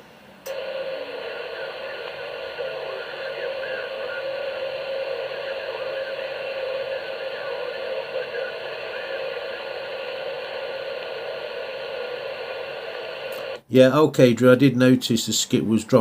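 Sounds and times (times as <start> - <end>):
radio static hiss: 0.5 - 13.7.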